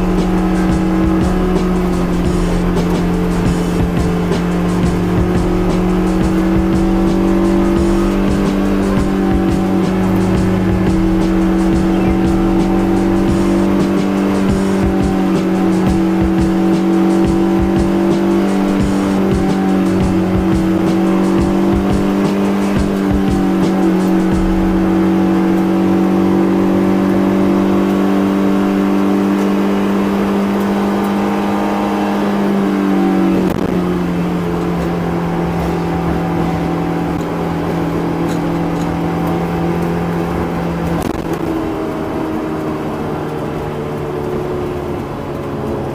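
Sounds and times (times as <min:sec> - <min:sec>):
car engine droning at cruise: 0:00.0 - 0:45.9
road noise: 0:00.0 - 0:45.9.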